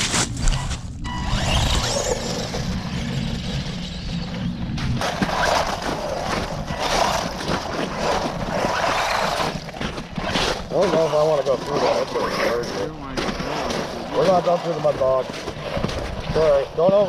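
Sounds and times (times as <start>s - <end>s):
small electric motors whining: 0.3s - 17.0s
wheels churning wet snow: 2.0s - 17.0s.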